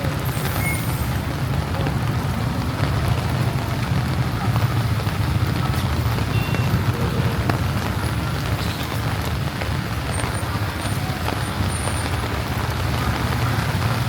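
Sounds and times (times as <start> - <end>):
rain hissing: 0.0 - 14.0
tyres on wet road: 0.0 - 14.0
vehicle engines rumbling: 0.0 - 14.0.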